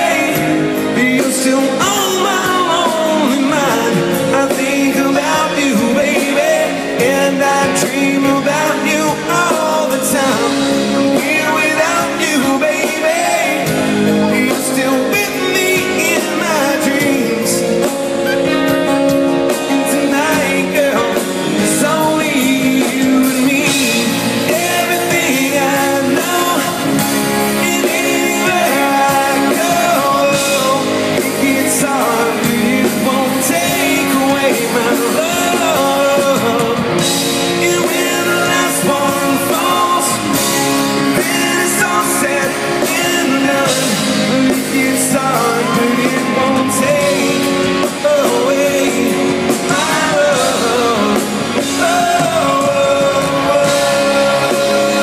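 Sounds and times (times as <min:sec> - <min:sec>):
drums: 0:00.0 - 0:55.0
electric guitar: 0:00.0 - 0:55.0
man singing into a microphone: 0:00.0 - 0:55.0.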